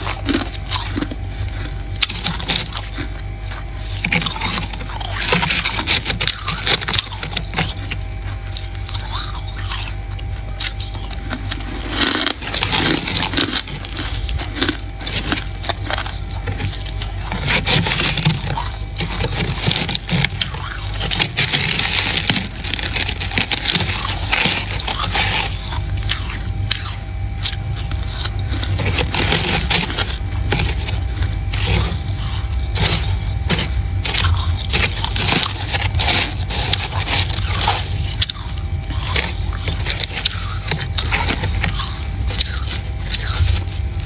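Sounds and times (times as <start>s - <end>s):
frost being scraped: 0.0s - 44.0s.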